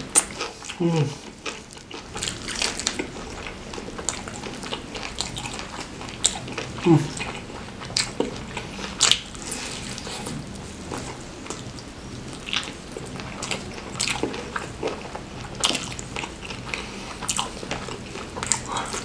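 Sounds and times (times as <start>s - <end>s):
close chewing with wet mouth sounds: 0.0s - 19.0s.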